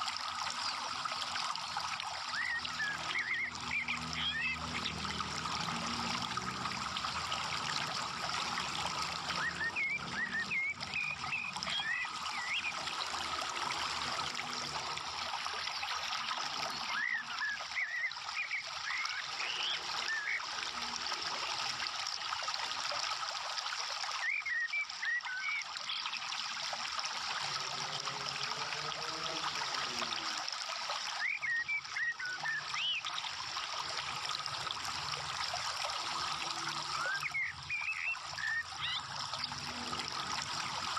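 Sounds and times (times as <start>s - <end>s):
trickling water: 0.0s - 40.9s.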